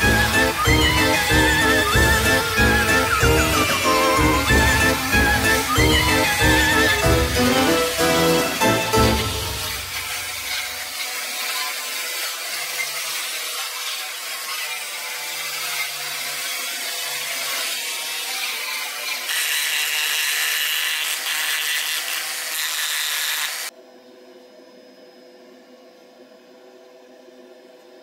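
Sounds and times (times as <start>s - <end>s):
rotary tool grinding wood: 0.0s - 23.7s.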